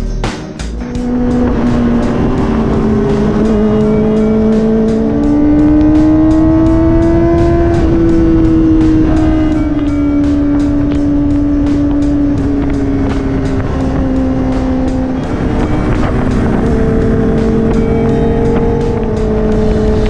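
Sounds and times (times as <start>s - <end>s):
motorcycle engine accelerating: 0.7s - 20.0s.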